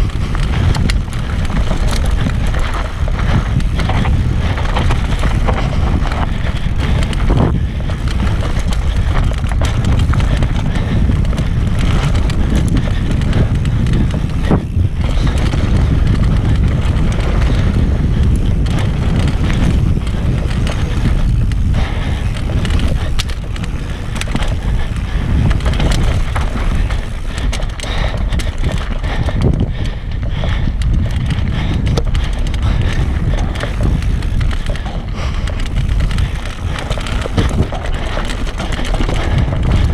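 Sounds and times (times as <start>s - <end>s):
bike clattering over bumps: 0.0s - 39.9s
tyres on dry dirt: 0.0s - 39.9s
wind noise on microphone: 0.0s - 39.9s.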